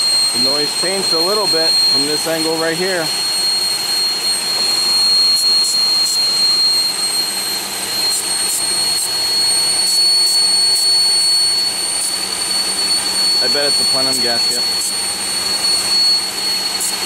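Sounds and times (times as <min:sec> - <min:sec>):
engine high-pitched whine: 0:00.0 - 0:17.0.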